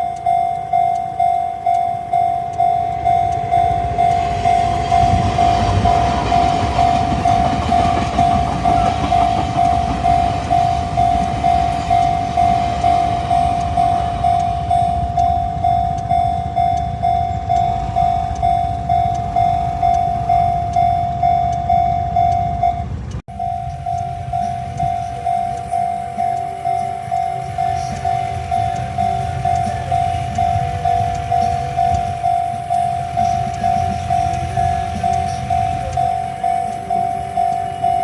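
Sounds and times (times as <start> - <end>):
level-crossing bell ringing: 0.0 - 38.0
train rumbling past: 0.0 - 38.0.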